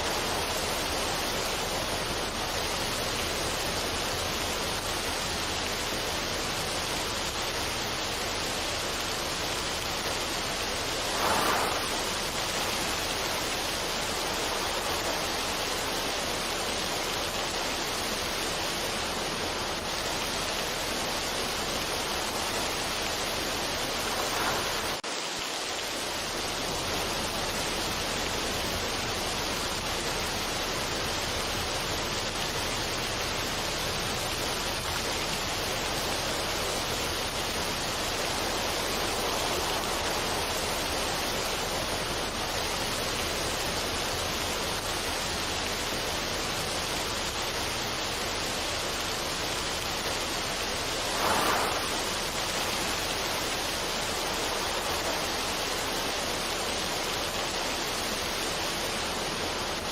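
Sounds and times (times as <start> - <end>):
steady rushing ambience noise: 0.0 - 59.9.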